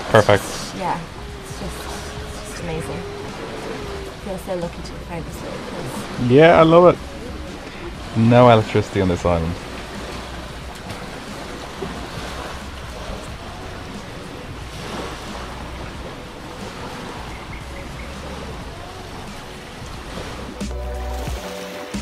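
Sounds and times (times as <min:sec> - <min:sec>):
small waves on shore: 0:00.0 - 0:22.0
wind: 0:00.0 - 0:22.0.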